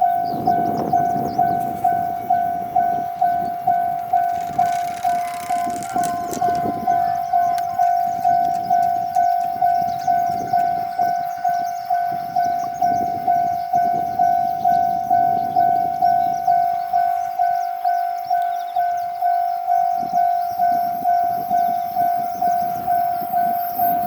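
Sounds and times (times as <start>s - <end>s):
level-crossing warning bell: 0.0s - 4.4s, 6.6s - 24.0s.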